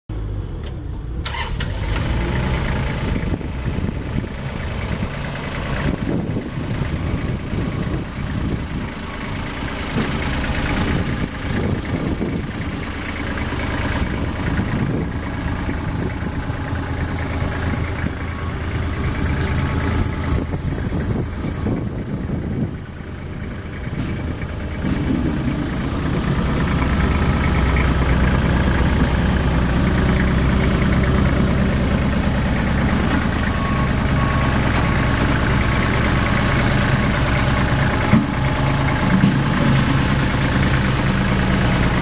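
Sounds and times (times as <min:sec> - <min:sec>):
diesel tractor engine rumbling: 0:00.1 - 0:42.0.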